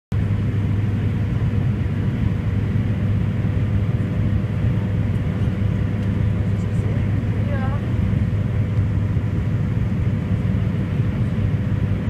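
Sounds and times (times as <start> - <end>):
propeller engines droning: 0.1 - 12.0
thin steady whine: 0.2 - 12.0.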